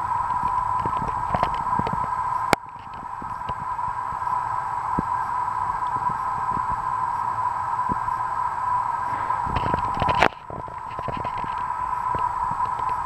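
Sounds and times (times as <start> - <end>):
ceiling fan motor hum: 0.0 - 13.0
faint ticks: 0.1 - 13.0.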